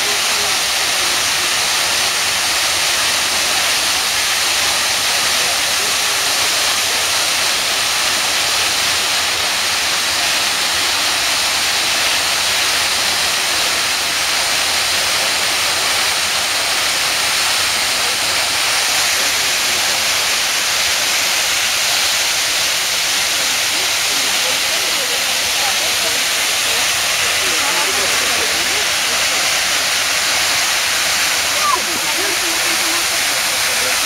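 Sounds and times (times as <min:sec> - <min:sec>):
waterfall splashing over rocks: 0:00.0 - 0:34.0.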